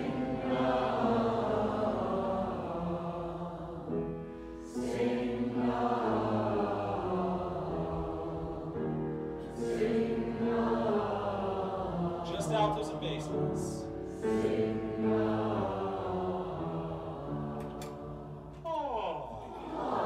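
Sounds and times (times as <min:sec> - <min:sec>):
choir singing: 0:00.0 - 0:18.6, 0:19.2 - 0:20.0
piano: 0:00.0 - 0:20.0.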